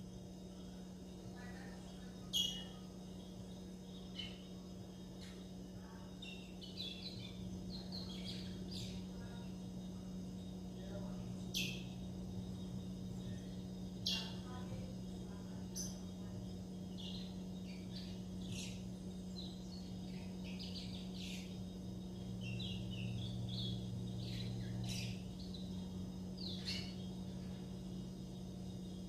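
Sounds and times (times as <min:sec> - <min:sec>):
steady low hum: 0:00.0 - 0:29.0
finches twittering: 0:00.2 - 0:29.0.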